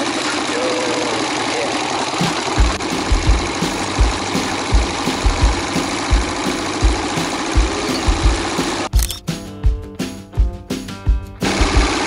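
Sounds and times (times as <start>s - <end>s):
motorcycle engine running: 0.0s - 9.1s, 11.4s - 12.0s
music with thumping beat: 2.2s - 12.0s.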